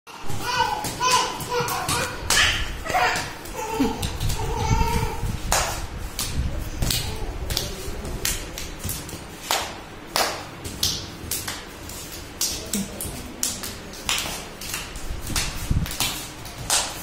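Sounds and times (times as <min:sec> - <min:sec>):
children clapping hands: 0:00.5 - 0:04.7, 0:05.4 - 0:17.0.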